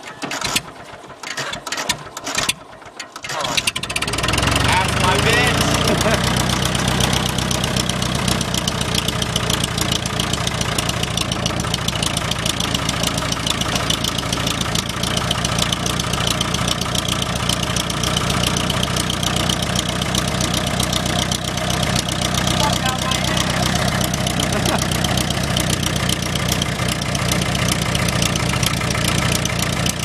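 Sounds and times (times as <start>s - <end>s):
diesel engine idling with knock: 0.0s - 30.0s.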